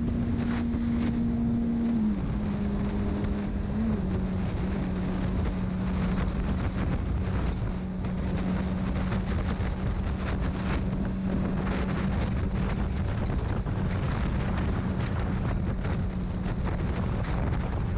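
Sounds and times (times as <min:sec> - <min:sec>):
motorcycle engine cruising: 0:00.0 - 0:17.9
wind rush on microphone: 0:00.0 - 0:17.9.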